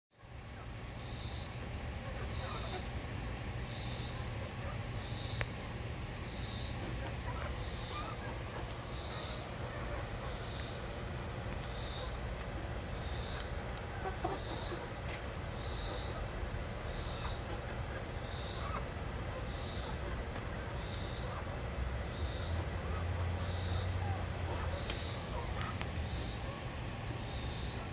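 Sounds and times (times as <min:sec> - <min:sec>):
pulsing insect chorus: 0:00.2 - 0:27.9
hens clucking softly: 0:00.3 - 0:27.9.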